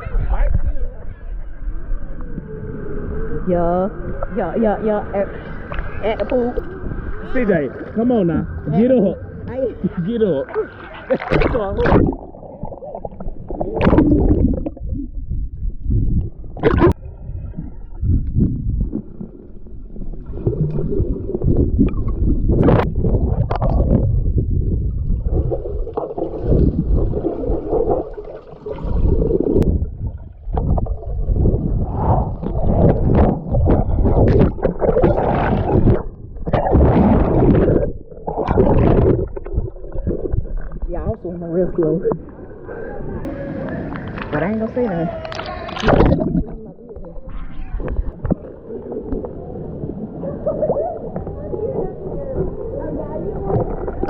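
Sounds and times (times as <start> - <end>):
heavy low rumble and crackling: 0.0 - 44.6, 45.2 - 54.0
water sloshing and gurgling: 1.8 - 54.0
water splashes: 9.8 - 54.0.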